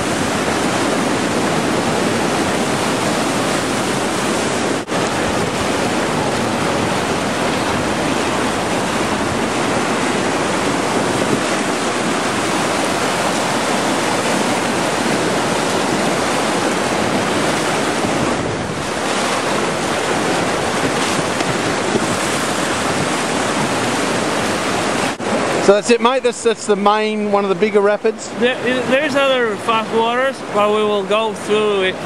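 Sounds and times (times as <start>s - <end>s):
water splashing over boat: 0.0s - 32.0s
whitewater rushing: 0.0s - 32.0s.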